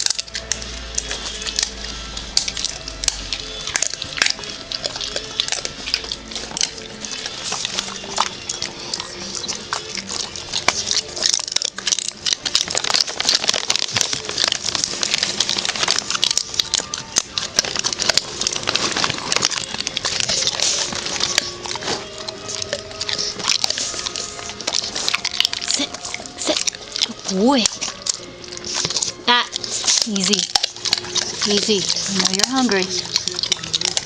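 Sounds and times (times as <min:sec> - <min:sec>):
dog crunching dry kibble: 0:00.0 - 0:34.0.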